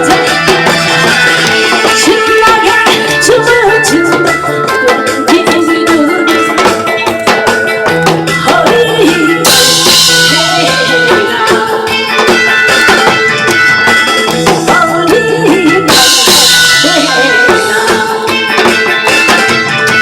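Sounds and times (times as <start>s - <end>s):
instrumental music with drum beat: 0.0s - 20.0s.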